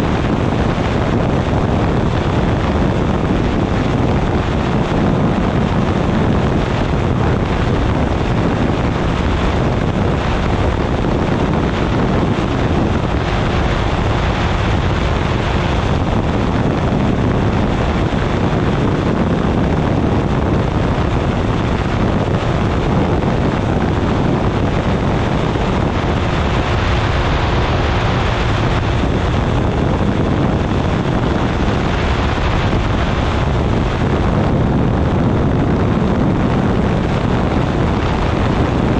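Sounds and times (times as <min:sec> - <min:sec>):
engine and propeller droning: 0:00.0 - 0:38.9
wind rushing on microphone: 0:00.0 - 0:38.9.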